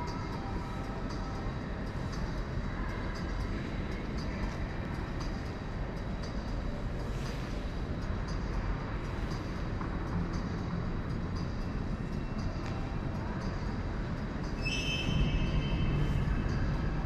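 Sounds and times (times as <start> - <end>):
low hall rumble: 0.0 - 17.0.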